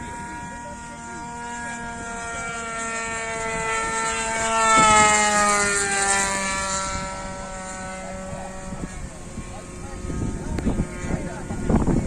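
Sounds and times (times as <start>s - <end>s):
model plane engine flying past: 0.0s - 12.0s.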